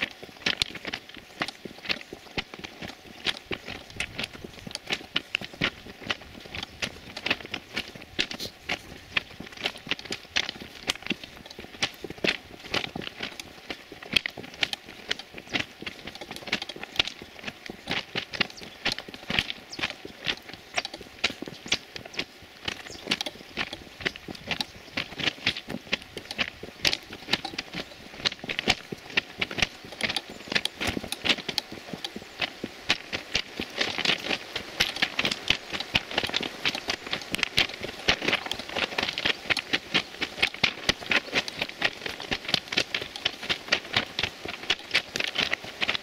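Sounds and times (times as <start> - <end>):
footsteps crunching on gravel: 0.0 - 46.0.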